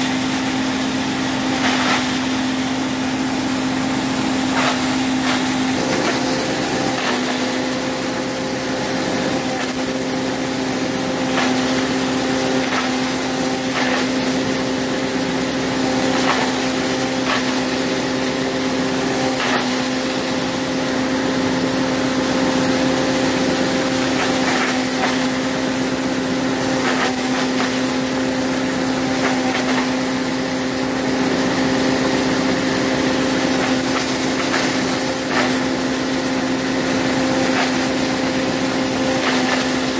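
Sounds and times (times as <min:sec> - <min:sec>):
grinding mill humming: 0:00.0 - 0:39.9.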